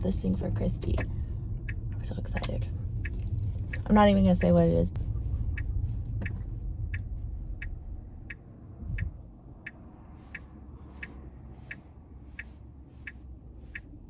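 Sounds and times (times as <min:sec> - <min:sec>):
low car hum: 0:00.0 - 0:14.0
car turn signal clicking: 0:00.2 - 0:14.0.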